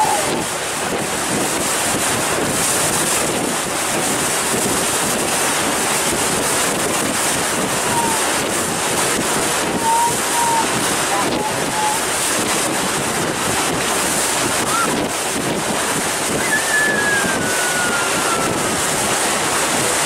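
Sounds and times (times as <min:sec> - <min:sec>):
water rushing from a ferry: 0:00.0 - 0:20.0
wind buffeting the microphone: 0:00.0 - 0:20.0.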